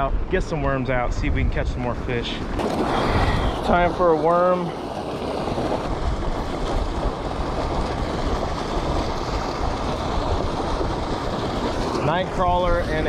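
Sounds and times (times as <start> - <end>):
wind buffeting microphone: 0.0 - 13.0
water rushing from spillway: 1.9 - 13.0.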